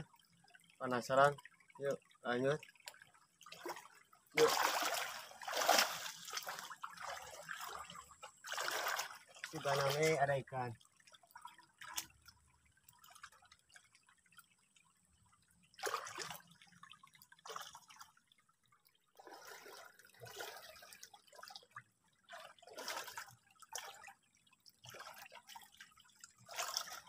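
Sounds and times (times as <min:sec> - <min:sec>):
muddy water splashing: 0:00.8 - 0:14.4, 0:15.7 - 0:27.0.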